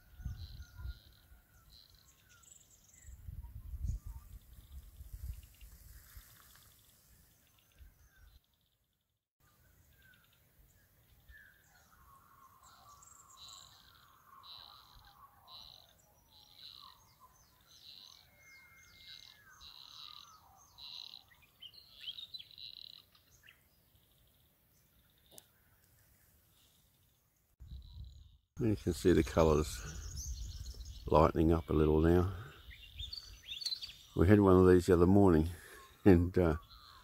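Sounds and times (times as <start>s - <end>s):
warbling birdsong: 0.0s - 37.0s.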